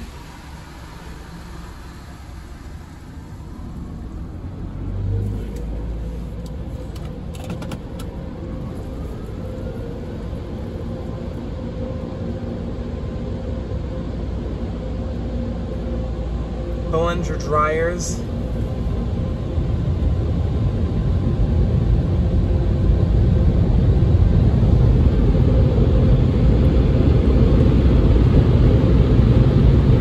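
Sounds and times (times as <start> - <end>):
car wash machinery rumble: 0.0 - 30.0
dryer blowers whine rising: 0.0 - 30.0.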